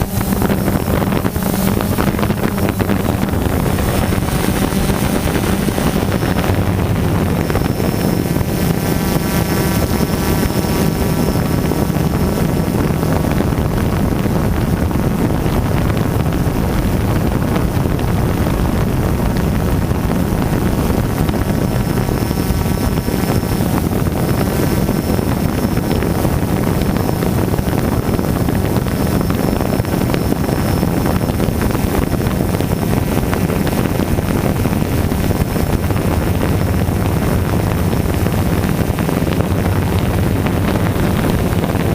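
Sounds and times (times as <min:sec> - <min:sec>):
drone propellers whirring: 0:00.0 - 0:41.9
thin high whine: 0:00.0 - 0:41.9
wind buffeting microphone: 0:00.0 - 0:41.9.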